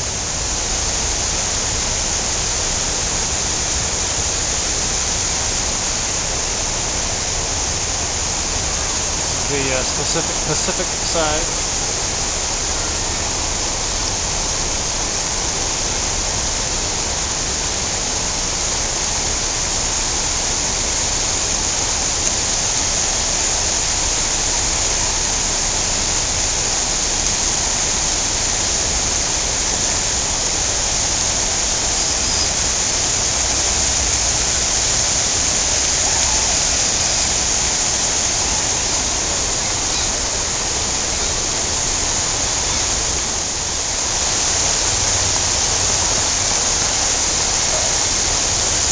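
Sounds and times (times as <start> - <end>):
fountain water splashing: 0.0 - 48.9.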